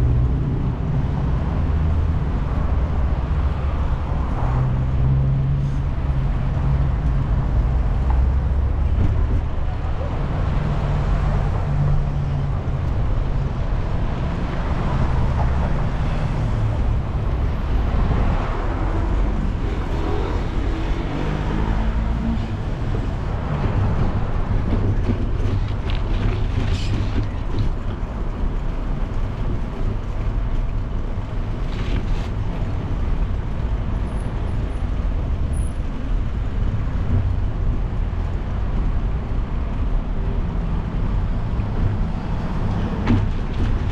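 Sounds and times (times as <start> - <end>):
road and wind noise: 0.0 - 43.9
street traffic passing: 0.0 - 43.9.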